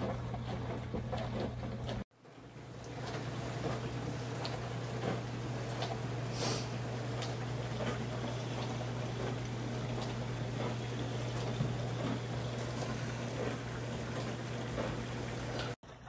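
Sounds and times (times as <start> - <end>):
dishwasher pump hum: 0.0 - 16.0
water splashing inside dishwasher: 0.0 - 16.0.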